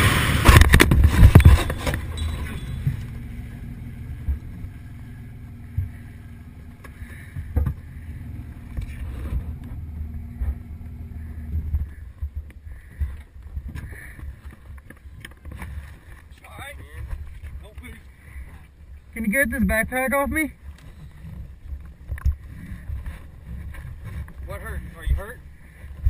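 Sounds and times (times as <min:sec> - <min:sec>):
engine idling hum: 0:00.0 - 0:26.0.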